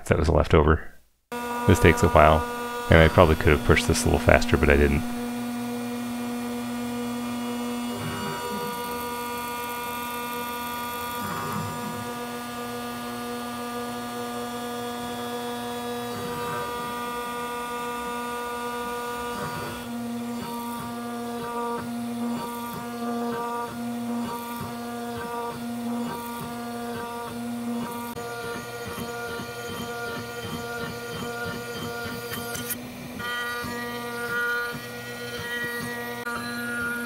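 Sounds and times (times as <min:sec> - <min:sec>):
router spindle milling plastic: 0:01.3 - 0:37.0.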